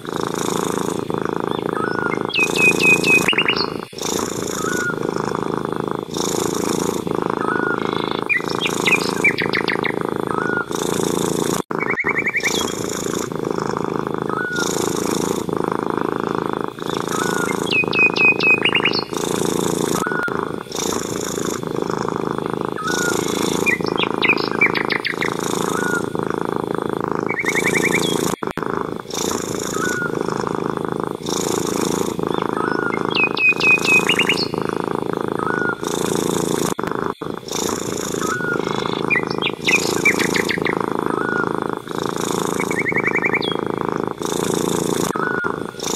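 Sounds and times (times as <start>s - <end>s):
cat purring: 0.0s - 45.9s
small birds chirping: 0.0s - 45.9s.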